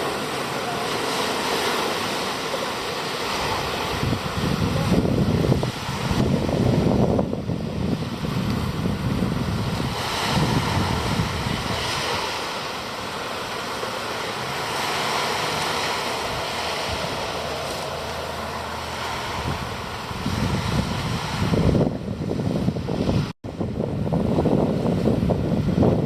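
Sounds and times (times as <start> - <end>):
ocean surf washing: 0.0 - 26.0
wind buffeting microphone: 1.5 - 13.7, 14.4 - 26.0.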